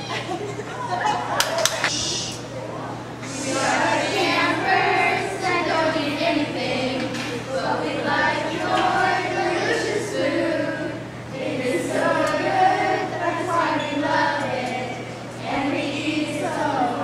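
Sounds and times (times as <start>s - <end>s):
children singing in unison: 3.2s - 17.0s.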